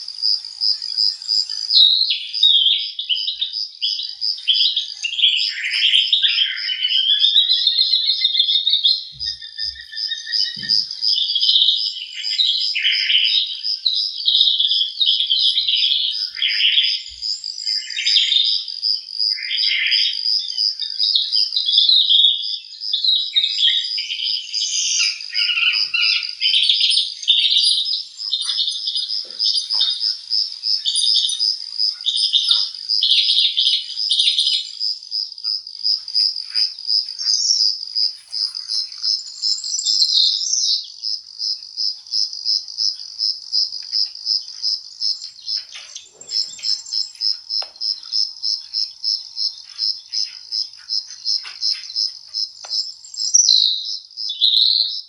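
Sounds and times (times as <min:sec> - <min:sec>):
many birds chirping: 0:00.0 - 0:55.0.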